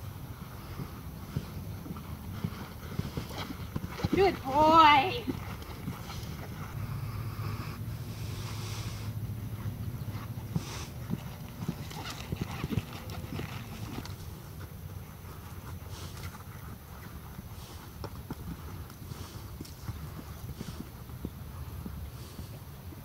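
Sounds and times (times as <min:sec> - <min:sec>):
horse hoofbeats on sand: 0:00.0 - 0:06.9, 0:08.3 - 0:23.0.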